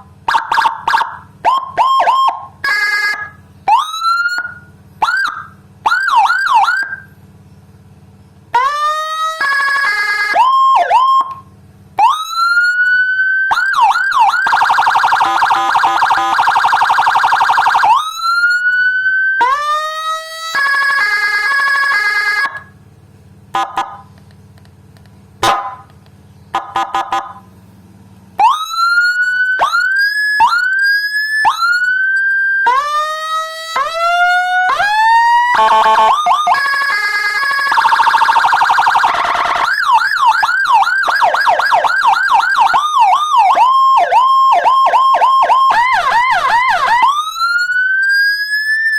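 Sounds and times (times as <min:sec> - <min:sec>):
handheld electronic siren tones: 0:00.3 - 0:07.1, 0:08.5 - 0:22.7, 0:28.4 - 0:48.9.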